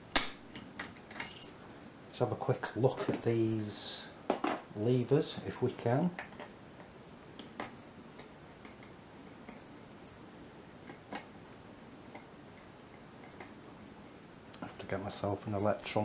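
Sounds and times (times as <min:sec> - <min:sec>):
low background hiss: 0:00.0 - 0:16.0.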